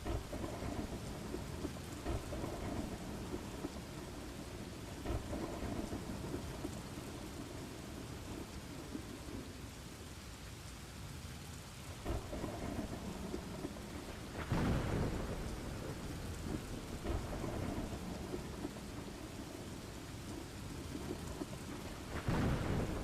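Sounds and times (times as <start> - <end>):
thunderclap: 0.0 - 9.6, 12.0 - 23.0
thunder rumbling: 0.0 - 9.7, 11.9 - 23.0
steady rain: 0.0 - 23.0.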